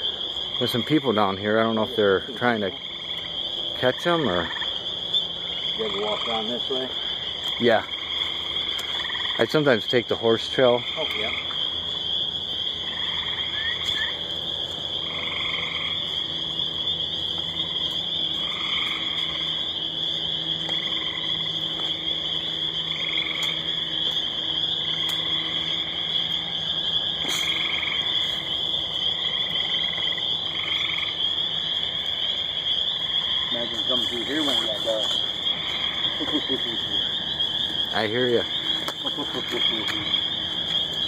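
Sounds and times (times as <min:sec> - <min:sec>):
spring peepers chorus: 0:00.0 - 0:41.0
tree frogs trilling: 0:00.0 - 0:41.0.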